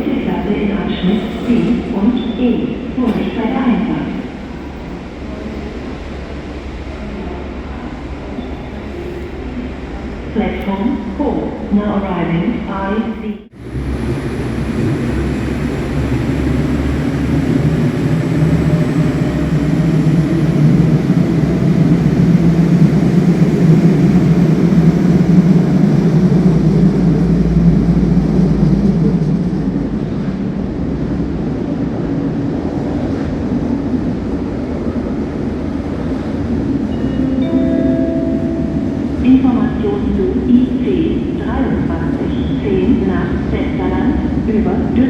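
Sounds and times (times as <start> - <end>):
train rumble: 0.0 - 45.0.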